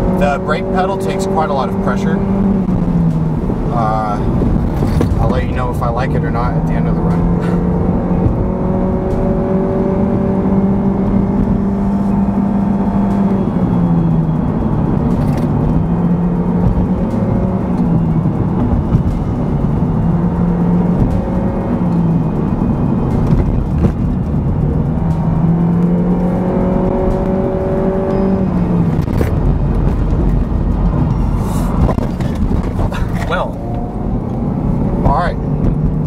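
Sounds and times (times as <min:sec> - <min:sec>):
car engine drone: 0:00.0 - 0:36.0.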